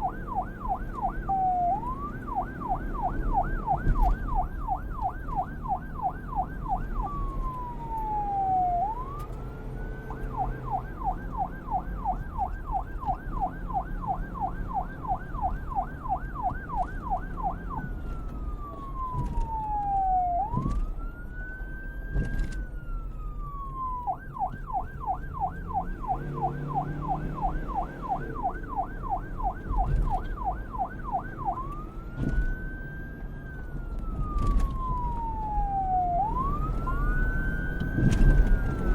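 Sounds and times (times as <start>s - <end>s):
electronic police siren: 0.0s - 38.9s.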